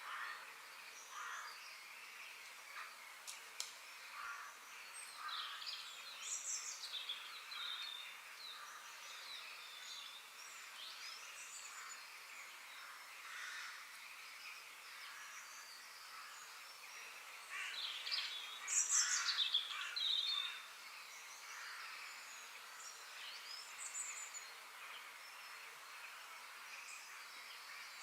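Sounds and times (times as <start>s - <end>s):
wild birds chirping and calling: 0.0s - 3.4s, 4.0s - 28.0s
steady outdoor hiss: 0.0s - 28.0s.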